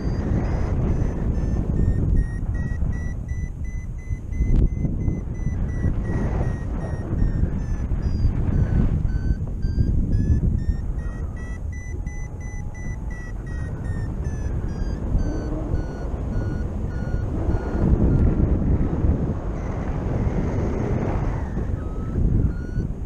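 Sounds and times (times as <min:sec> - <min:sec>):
variometer beeping: 0:00.0 - 0:23.0
wind rushing on microphone: 0:00.0 - 0:23.0.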